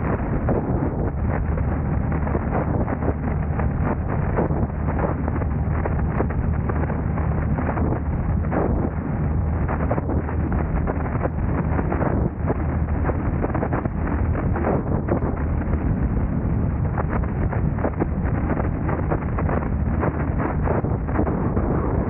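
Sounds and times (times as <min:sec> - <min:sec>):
car driving hum: 0:00.0 - 0:22.0.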